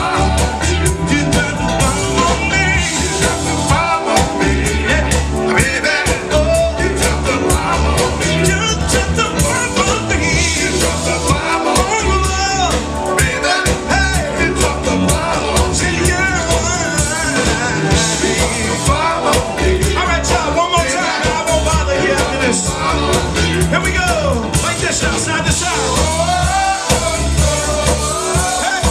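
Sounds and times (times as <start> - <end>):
bass: 0.0 - 28.9
drum beat: 0.0 - 28.9
person singing: 0.0 - 28.9.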